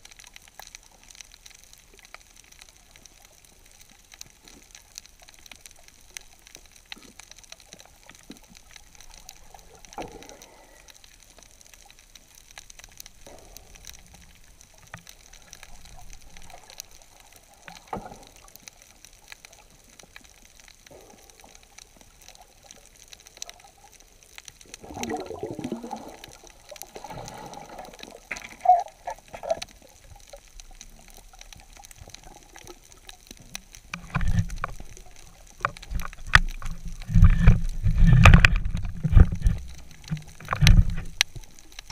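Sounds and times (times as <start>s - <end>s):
faint clicks underwater: 0.0s - 41.9s
water gurgling: 0.0s - 41.9s.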